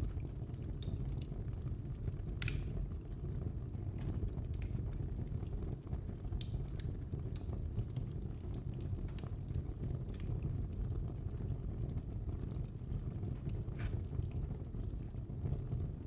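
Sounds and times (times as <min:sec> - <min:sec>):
fireplace fire crackling: 0:00.0 - 0:16.0
low rumble of flames: 0:00.0 - 0:16.0.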